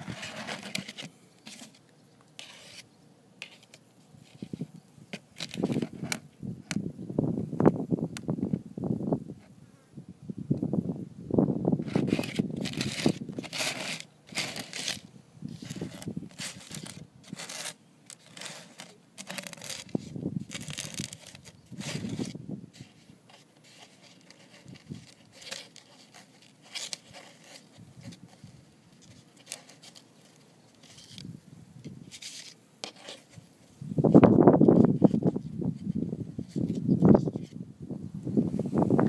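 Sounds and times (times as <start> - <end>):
plastic plate scraping and crinkling: 0.0 - 6.8, 11.8 - 37.6.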